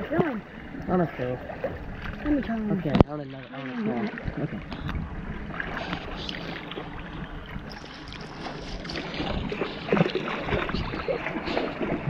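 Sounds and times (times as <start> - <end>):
lake water sloshing and splashing: 0.0 - 12.0.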